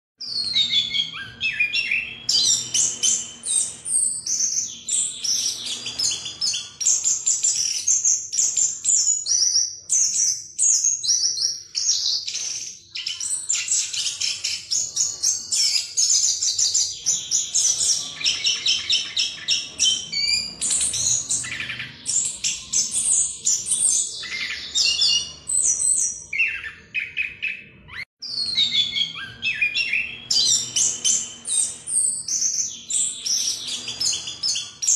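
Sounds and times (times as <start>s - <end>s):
thrush singing trills: 0.2s - 34.9s.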